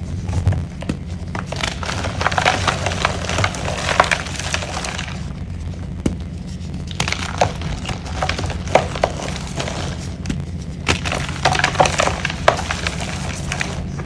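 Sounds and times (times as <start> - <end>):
chalk being crushed: 0.0 - 14.0.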